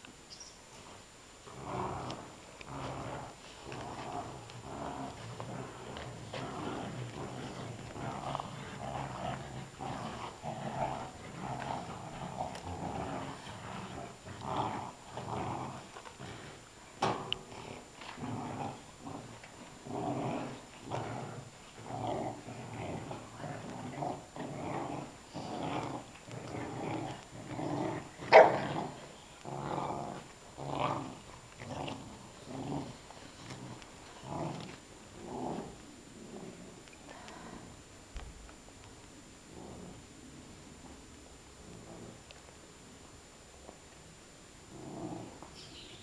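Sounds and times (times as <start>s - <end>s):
puppies growling in play: 0.8s - 37.8s, 39.5s - 41.0s, 41.6s - 42.4s, 44.7s - 46.0s.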